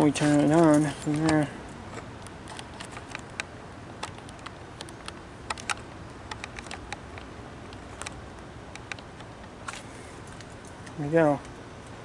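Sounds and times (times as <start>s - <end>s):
handling clicks and ticks: 0.0s - 12.0s.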